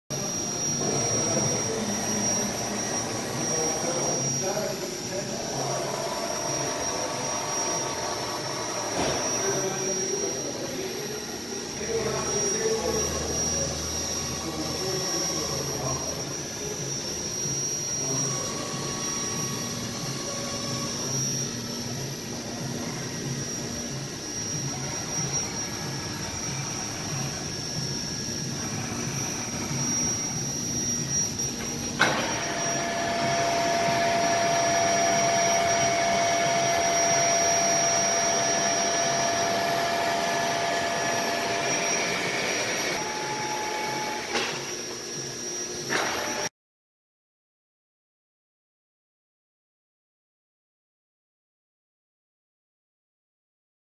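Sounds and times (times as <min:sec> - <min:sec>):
milling machine humming and whining: 0:00.1 - 0:46.5.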